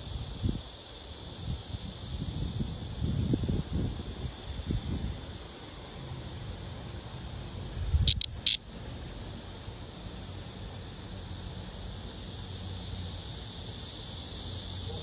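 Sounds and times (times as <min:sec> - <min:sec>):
cicada harsh buzzing: 0:00.0 - 0:15.0
steady high hiss: 0:00.0 - 0:15.0.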